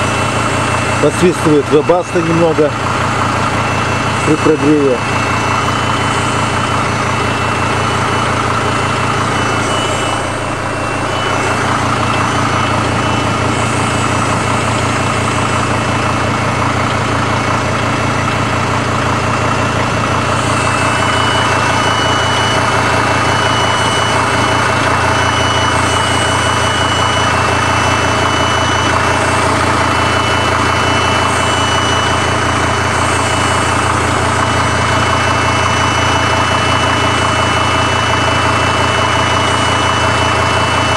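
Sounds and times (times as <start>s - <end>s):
diesel engine idling with knocking: 0.0s - 40.9s
faint steady heater whistle: 0.0s - 40.9s.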